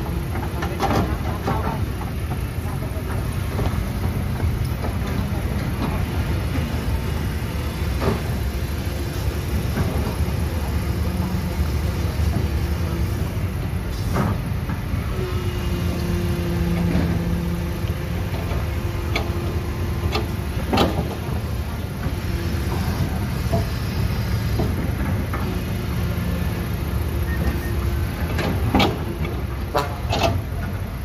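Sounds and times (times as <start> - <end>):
diesel engine rumble: 0.0 - 31.0.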